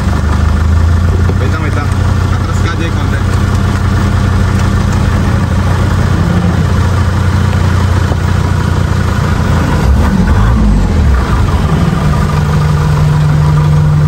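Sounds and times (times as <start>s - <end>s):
off-road vehicle engine from cab: 0.0s - 14.0s.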